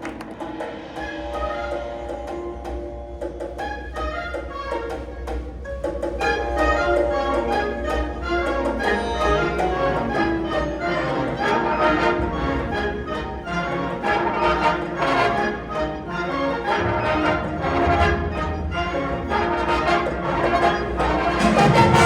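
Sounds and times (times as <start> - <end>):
wind band playing: 0.5 - 22.0.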